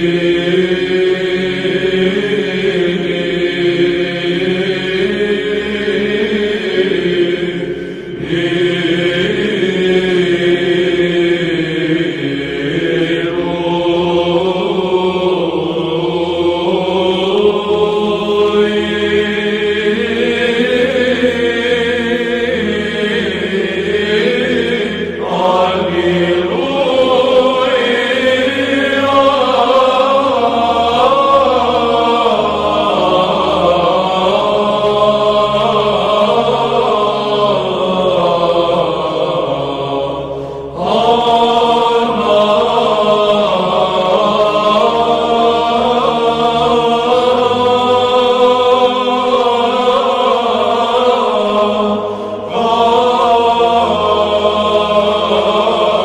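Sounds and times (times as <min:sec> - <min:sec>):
low drone: 0:00.0 - 0:56.0
voices chanting long notes: 0:00.0 - 0:56.0.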